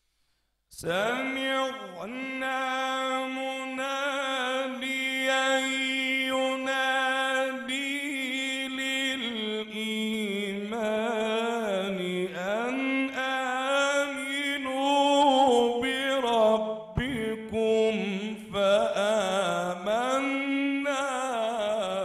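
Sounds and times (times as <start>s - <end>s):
man reciting melodically: 0.7s - 22.0s.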